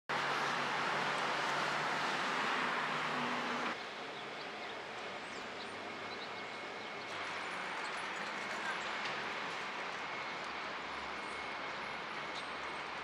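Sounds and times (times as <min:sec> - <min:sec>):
distant traffic: 0:00.1 - 0:13.0
traffic noise with low hum: 0:00.1 - 0:13.0.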